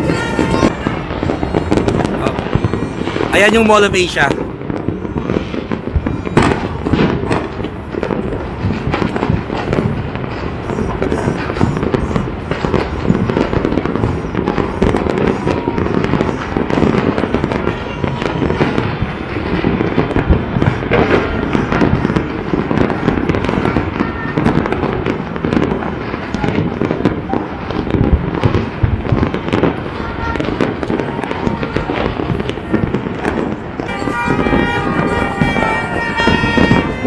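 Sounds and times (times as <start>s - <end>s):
fireworks and firecrackers crackling: 0.0s - 37.0s.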